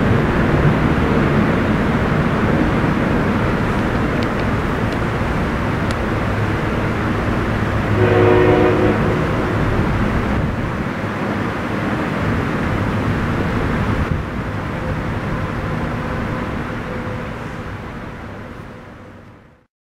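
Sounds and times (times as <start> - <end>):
engine drone: 0.0 - 19.6
outdoor noise: 0.0 - 19.7.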